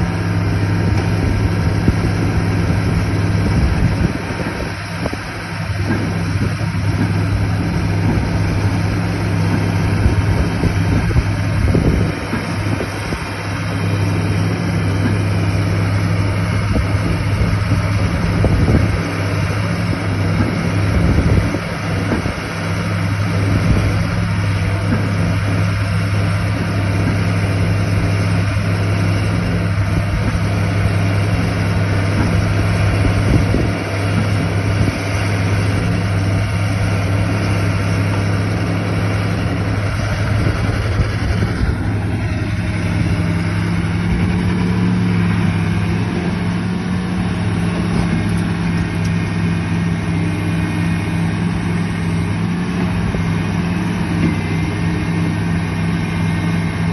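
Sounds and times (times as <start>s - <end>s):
heavy diesel engine droning: 0.0s - 56.9s.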